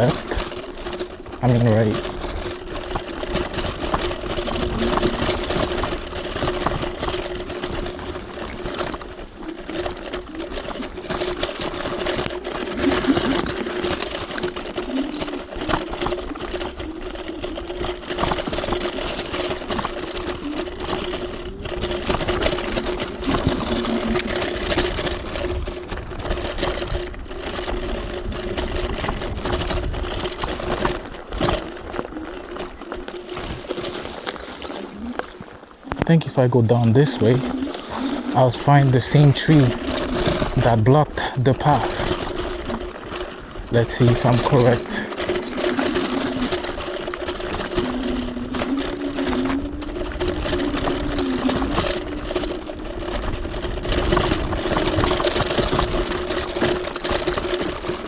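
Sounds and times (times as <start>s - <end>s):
knocks and rattles: 0.0s - 58.0s
tyre and ground noise: 0.0s - 58.0s.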